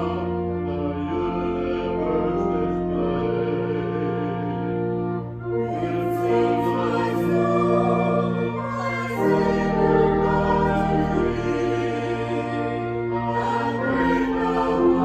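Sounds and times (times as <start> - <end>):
choir singing a hymn: 0.0 - 15.0
sustained instrumental accompaniment: 0.0 - 15.0.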